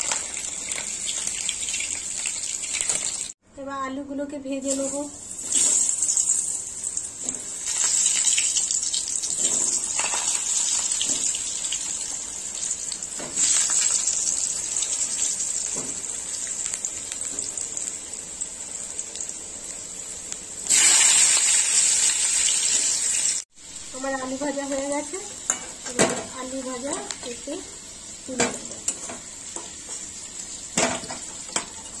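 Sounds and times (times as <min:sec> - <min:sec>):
potatoes sizzling in hot oil: 0:00.0 - 0:03.4, 0:04.6 - 0:32.0.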